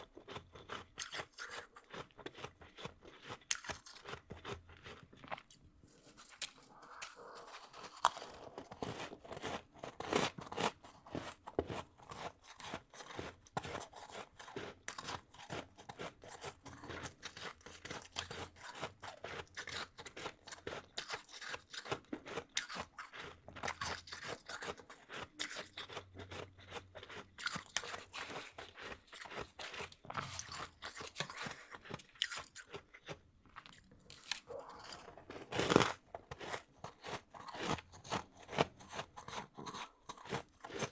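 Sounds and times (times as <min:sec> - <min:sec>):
person chewing crunchy frost: 0:00.0 - 0:40.9.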